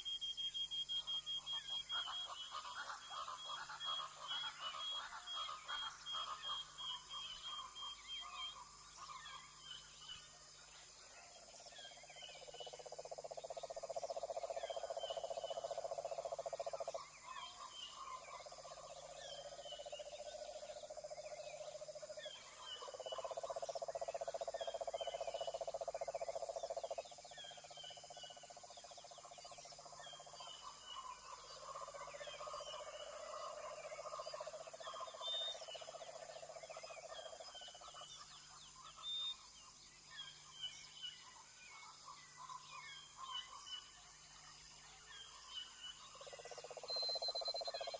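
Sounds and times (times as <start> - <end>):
frogs trilling: 0.0 - 10.5, 11.2 - 47.9.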